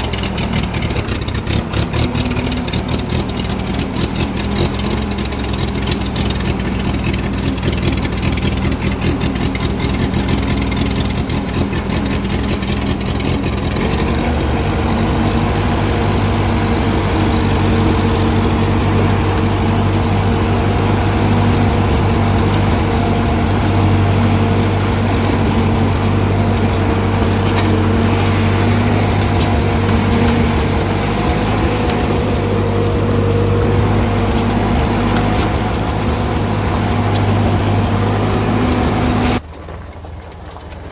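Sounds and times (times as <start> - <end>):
tractor engine running rough: 0.0 - 40.9.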